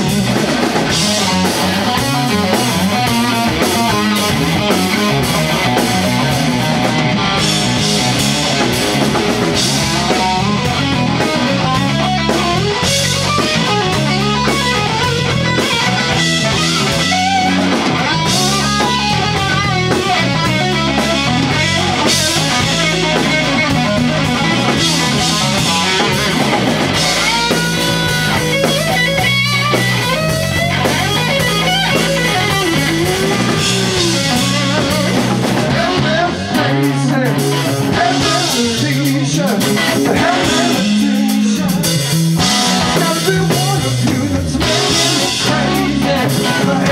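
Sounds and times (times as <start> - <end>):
drums: 0.0 - 46.9
electric guitar lead with bends: 0.0 - 46.9.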